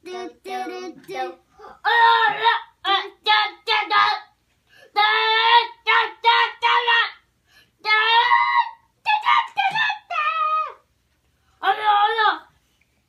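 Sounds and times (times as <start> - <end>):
child singing wordless tune: 0.0 - 10.8.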